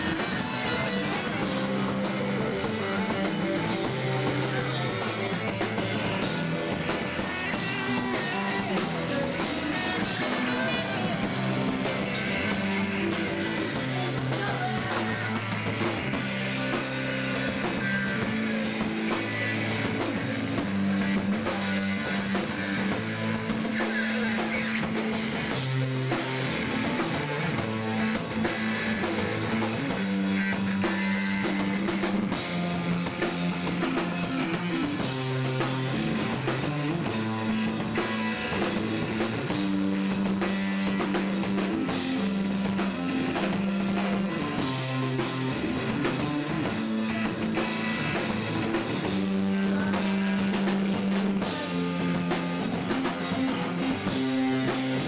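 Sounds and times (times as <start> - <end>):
low bass notes: 0.0 - 55.0
rock band playing live: 0.0 - 55.0.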